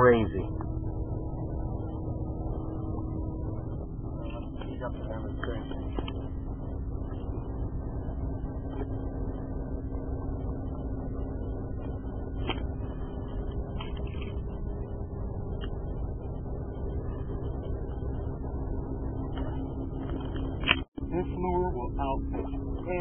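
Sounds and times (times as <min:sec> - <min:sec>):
boat motor rumbling: 0:00.0 - 0:23.0.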